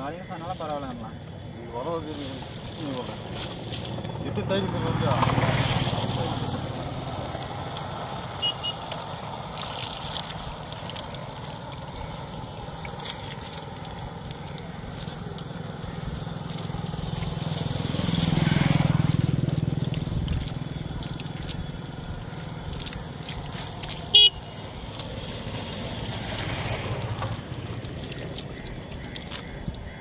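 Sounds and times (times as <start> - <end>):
water sloshing in puddle: 0.3 - 30.0
low engine hum: 1.2 - 30.0
motor vehicle passing: 1.7 - 30.0.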